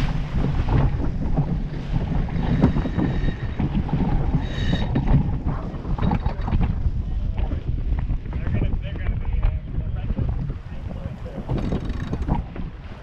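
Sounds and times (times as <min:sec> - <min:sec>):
rush of water in wake: 0:00.0 - 0:13.0
wind buffeting microphone: 0:00.0 - 0:13.0.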